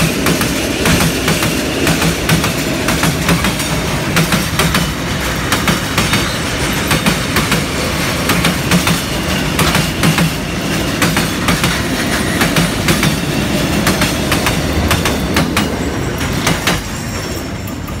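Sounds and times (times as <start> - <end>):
freight train rumble: 0.0 - 18.0
train wheels clacking over rail joints: 0.0 - 18.0.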